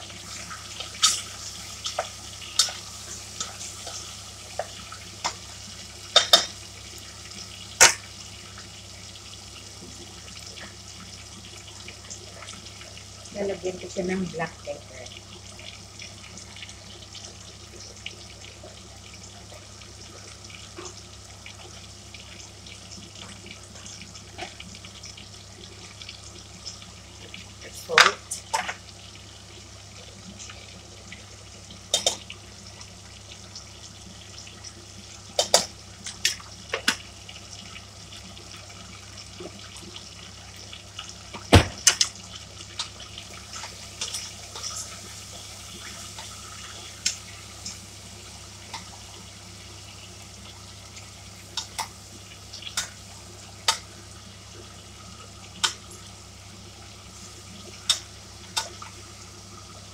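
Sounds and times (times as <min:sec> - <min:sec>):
chicken sizzling in a pot: 0:00.0 - 0:59.9.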